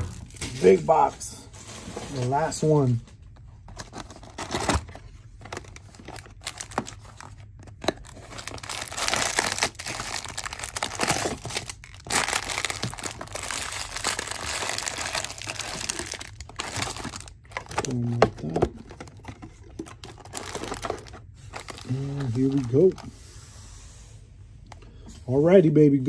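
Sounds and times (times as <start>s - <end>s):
plastic wrapping crinkling and tearing: 0.0s - 3.0s, 3.7s - 23.0s.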